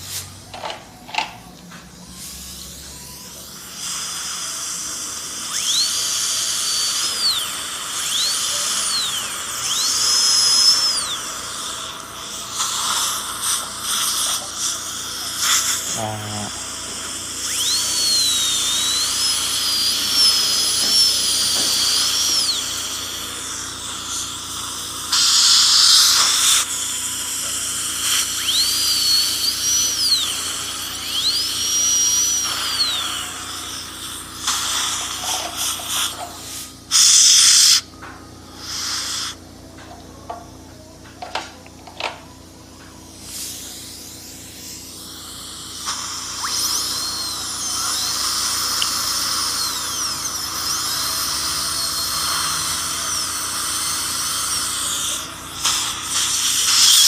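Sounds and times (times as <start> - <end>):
dental drill whining: 0.0 - 57.0
loud hissing blasts: 3.6 - 37.9, 38.6 - 39.4, 43.1 - 57.0.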